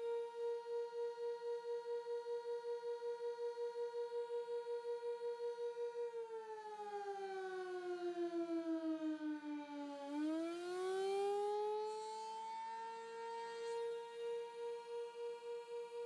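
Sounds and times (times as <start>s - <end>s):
civil defense warning siren: 0.0s - 16.0s.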